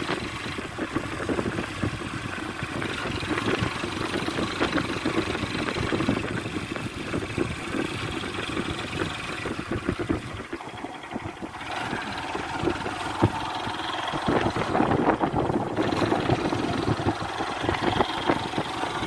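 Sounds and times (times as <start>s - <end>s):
knocks and rattles: 0.0s - 19.0s
motor vehicle running: 0.0s - 19.0s.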